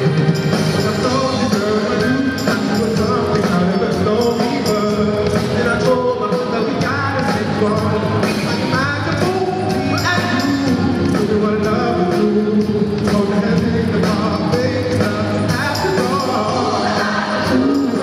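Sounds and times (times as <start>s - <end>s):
live band playing pop song: 0.0s - 18.0s
group of singers singing: 0.8s - 18.0s.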